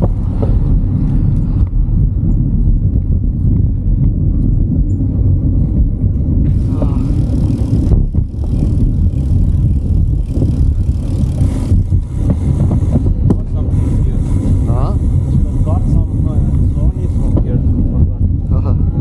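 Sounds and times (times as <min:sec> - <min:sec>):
road noise: 0:00.0 - 0:19.0
wind rumbling on microphone: 0:00.0 - 0:19.0.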